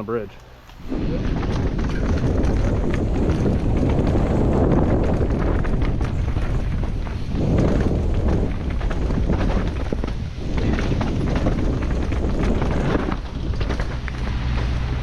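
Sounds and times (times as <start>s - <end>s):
wind rushing over microphone: 0.0s - 15.0s
bike rattling and knocking: 1.0s - 15.0s.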